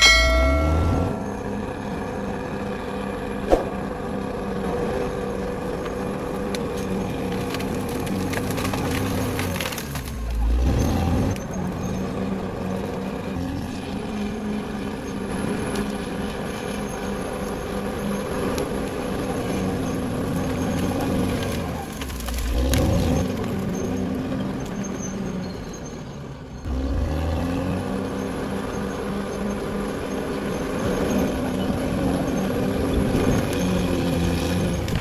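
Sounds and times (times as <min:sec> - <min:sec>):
bulldozer engine running: 0:00.0 - 0:35.0.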